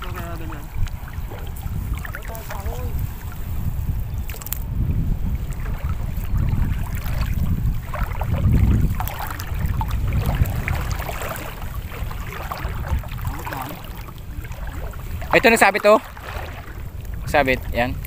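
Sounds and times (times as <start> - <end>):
water sloshing and dripping: 0.0 - 18.0
wind buffeting microphone: 0.0 - 18.0.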